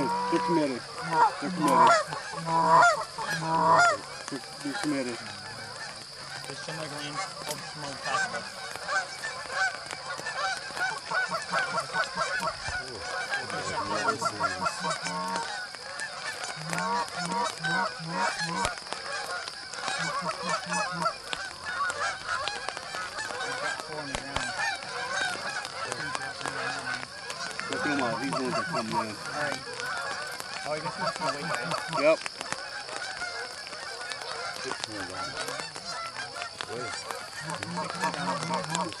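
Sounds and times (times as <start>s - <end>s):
geese honking: 0.0s - 39.0s.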